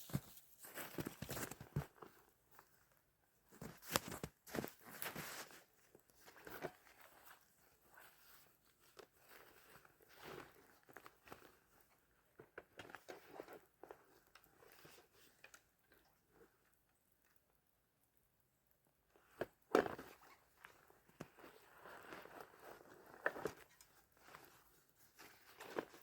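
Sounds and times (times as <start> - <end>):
faint crunching and rustling: 0.0 - 26.0.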